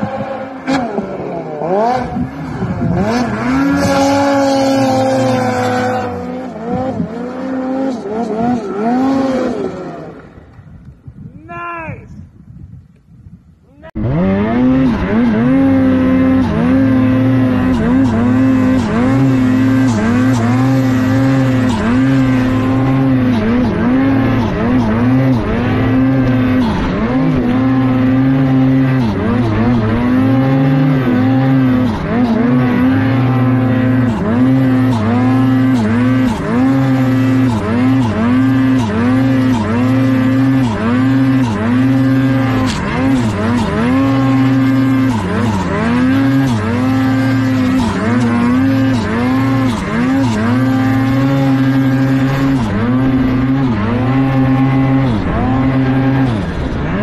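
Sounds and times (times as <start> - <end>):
snowmobile engine revving: 0.0 - 10.7, 13.7 - 57.0.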